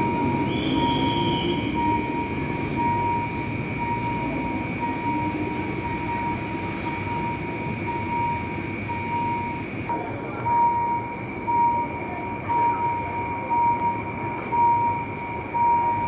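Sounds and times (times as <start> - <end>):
crossing warning signal beeping: 0.0 - 16.0
train rumbling: 0.0 - 16.0.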